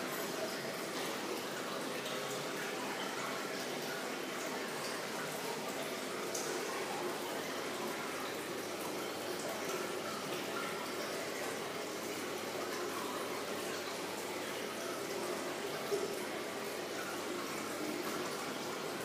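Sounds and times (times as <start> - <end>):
water fountain falling water: 0.0 - 19.0.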